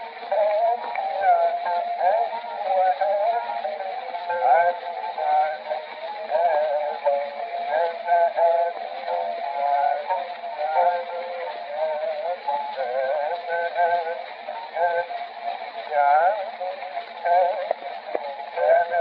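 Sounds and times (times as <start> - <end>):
man singing ornamented vocal: 0.0 - 15.2, 15.8 - 19.0
record surface hiss: 0.0 - 19.0.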